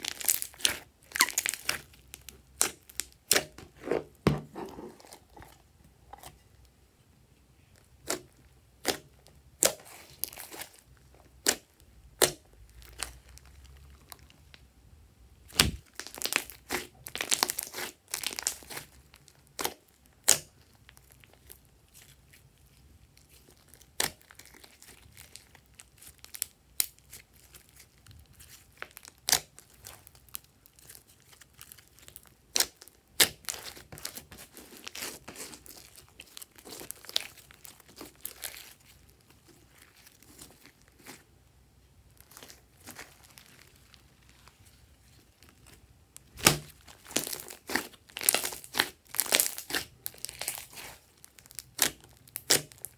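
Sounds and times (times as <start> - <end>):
slime squishing with pops: 0.0 - 6.4, 7.8 - 14.7, 15.4 - 41.3, 42.1 - 52.9.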